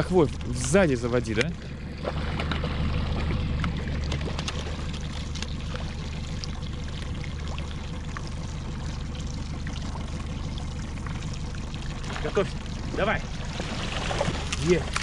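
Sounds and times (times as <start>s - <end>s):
outboard motor humming: 0.0s - 15.0s
water sloshing and trickling: 0.0s - 15.0s.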